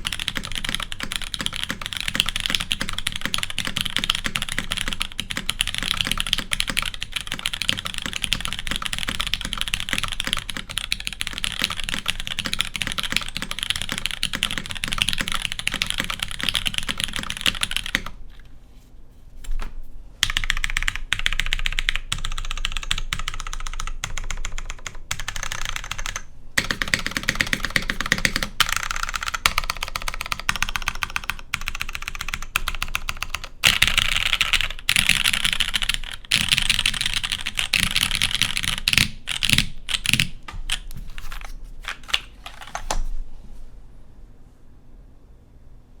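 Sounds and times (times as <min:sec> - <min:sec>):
fast mechanical keyboard typing: 0:00.0 - 0:18.2, 0:20.2 - 0:43.0.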